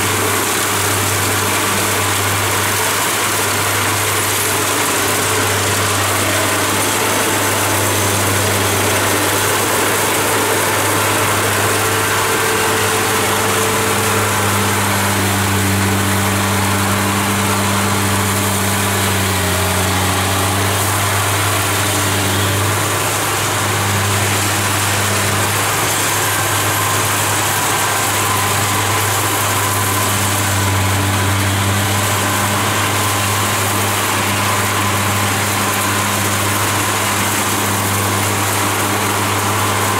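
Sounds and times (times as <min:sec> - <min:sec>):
combine harvester engine drone: 0:00.0 - 0:39.9
hiss of working machinery: 0:00.0 - 0:39.9.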